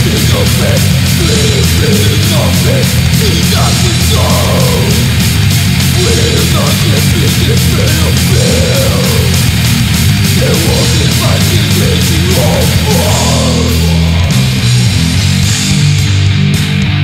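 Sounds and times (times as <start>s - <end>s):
death metal music: 0.0s - 17.0s.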